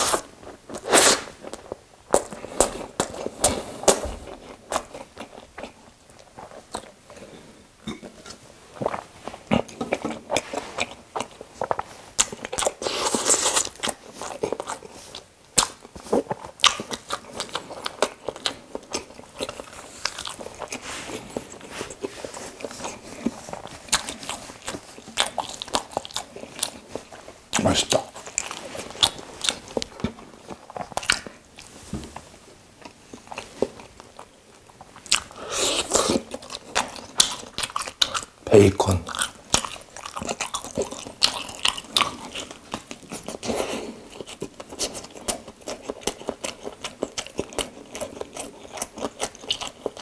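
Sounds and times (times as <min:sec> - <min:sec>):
crunchy chewing: 0:00.0 - 0:31.7, 0:32.8 - 0:50.0.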